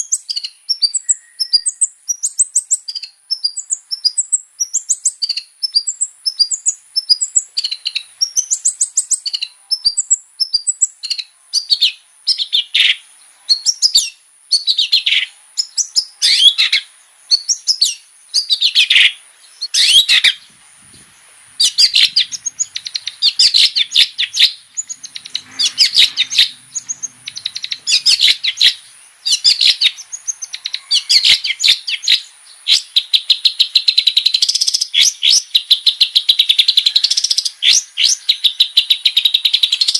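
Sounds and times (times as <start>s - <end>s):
shrike singing: 0.7s - 34.6s.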